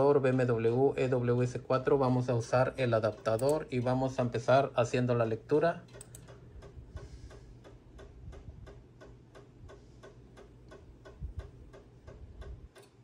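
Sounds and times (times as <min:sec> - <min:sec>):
rapid even ticking: 0:00.0 - 0:13.0.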